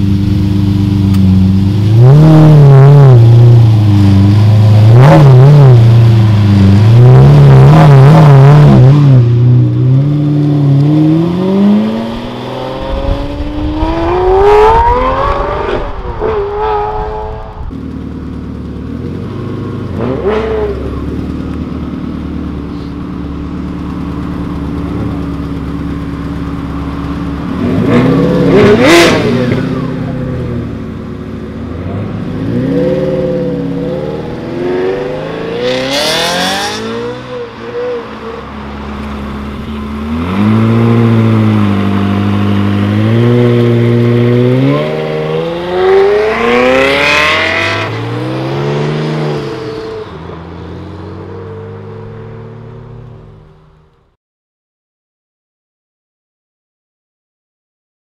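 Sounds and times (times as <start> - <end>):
sports car engine revving: 0.0 - 53.5
sports car accelerating away: 0.2 - 18.0, 24.0 - 53.7.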